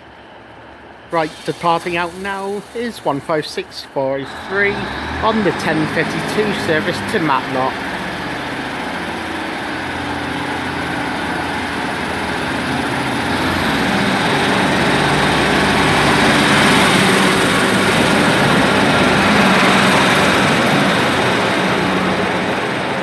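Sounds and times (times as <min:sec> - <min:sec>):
diesel train engine accelerating: 0:00.0 - 0:23.0
high rising whine: 0:00.0 - 0:23.0.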